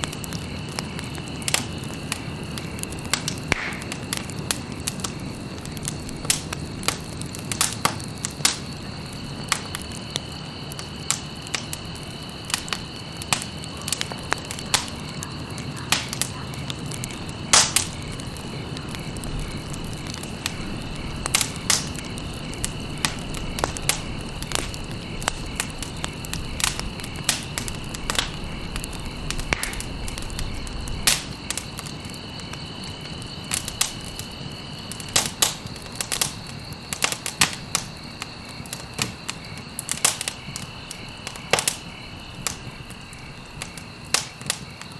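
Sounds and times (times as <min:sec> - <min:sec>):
burning wood popping and snapping: 0:00.0 - 0:44.9
soft hiss of flames: 0:00.0 - 0:44.9.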